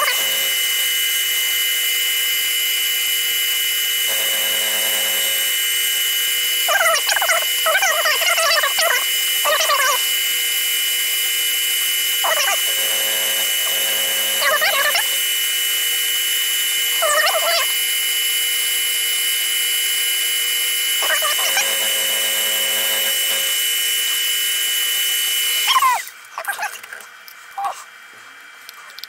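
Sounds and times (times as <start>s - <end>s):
milling machine whine: 0.0s - 26.2s.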